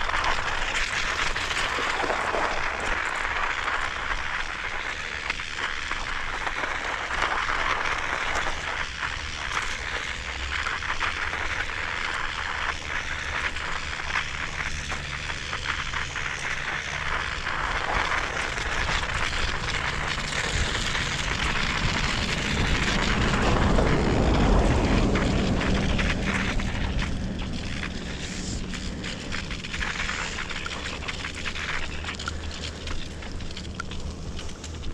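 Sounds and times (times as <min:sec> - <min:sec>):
small crackles: 0:00.0 - 0:34.9
wind and road noise: 0:00.0 - 0:34.9.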